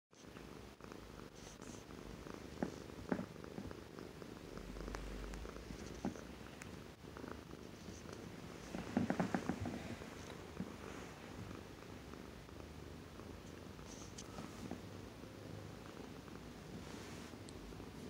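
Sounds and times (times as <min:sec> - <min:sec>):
cat purring: 0:00.2 - 0:18.0.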